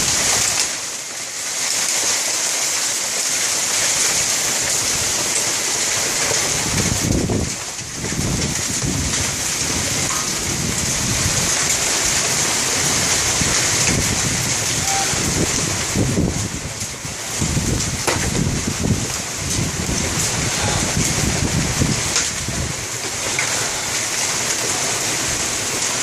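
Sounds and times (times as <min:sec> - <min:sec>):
hail and heavy rain: 0:00.0 - 0:26.0
wind gusting on microphone: 0:04.4 - 0:25.9.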